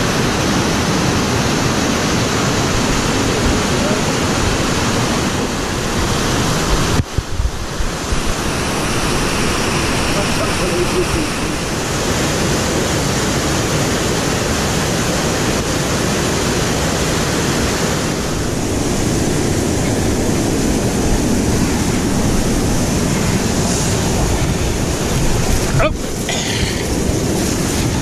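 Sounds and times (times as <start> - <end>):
waterfall roaring: 0.0 - 28.0.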